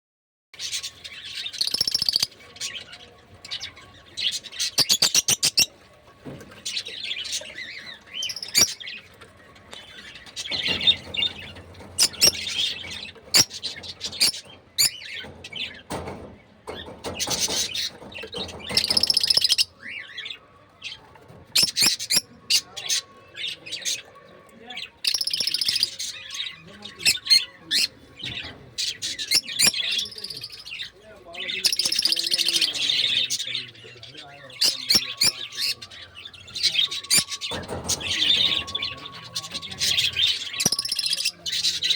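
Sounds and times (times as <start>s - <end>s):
lovebirds chirping: 0.6s - 41.9s.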